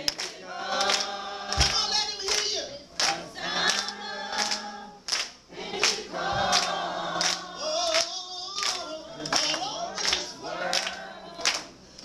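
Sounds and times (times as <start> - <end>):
hand claps: 0.0 - 11.8
congregation singing gospel: 0.0 - 12.0.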